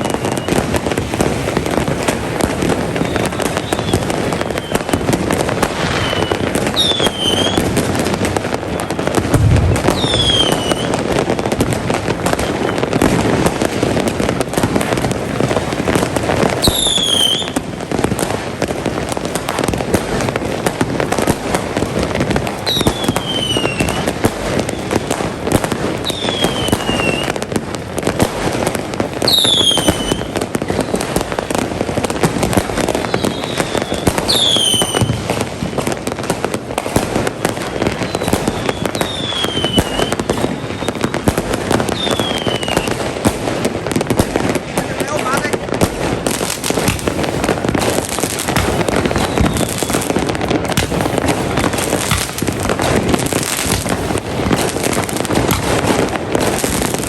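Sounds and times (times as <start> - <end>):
falling firework whistle: 0.0 - 18.2, 19.5 - 43.4, 44.0 - 57.0
fireworks crackling and banging: 0.0 - 57.0.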